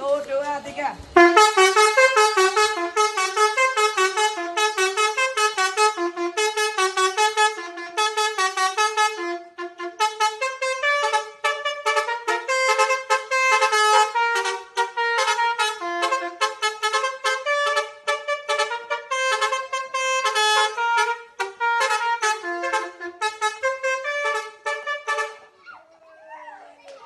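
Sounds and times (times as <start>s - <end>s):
bus horn playing melody: 1.2s - 25.6s.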